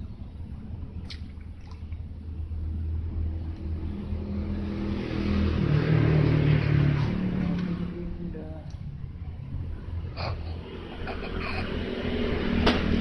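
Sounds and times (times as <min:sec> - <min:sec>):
vehicle engine passing by: 0:02.3 - 0:13.0.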